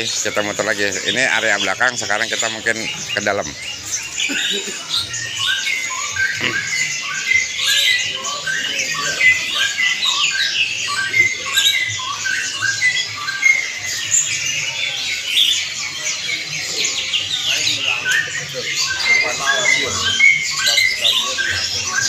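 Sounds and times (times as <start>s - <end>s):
songbirds chirping and whistling: 0.0s - 22.0s.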